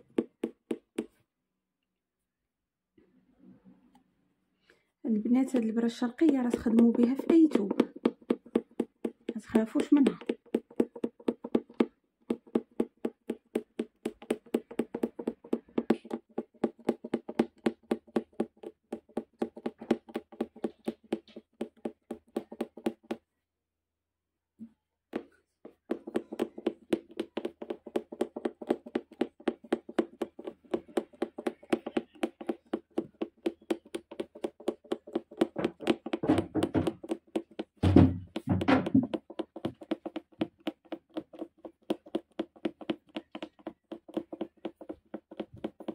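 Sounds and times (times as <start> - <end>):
punch needle tapping through fabric: 0.0 - 1.2, 5.3 - 23.3, 25.1 - 45.9
heavy thumps: 5.4 - 23.2, 25.2 - 45.9.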